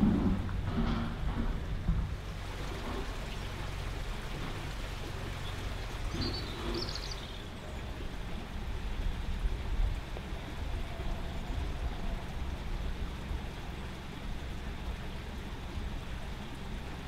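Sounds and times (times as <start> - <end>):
steady outdoor hiss: 0.0 - 17.0
wind rumbling on microphone: 0.0 - 17.0.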